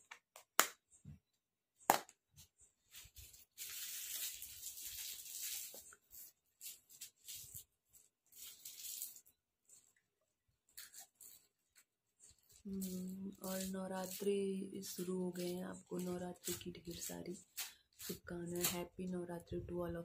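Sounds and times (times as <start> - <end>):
soft rustling and rubbing: 2.4 - 18.9.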